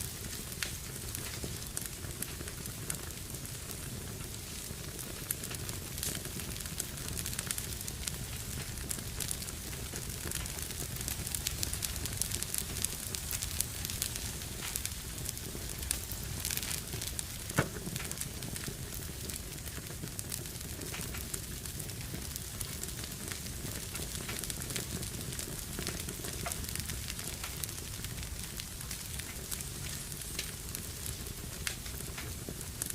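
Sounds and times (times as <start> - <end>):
fireplace fire crackling: 0.0 - 32.9.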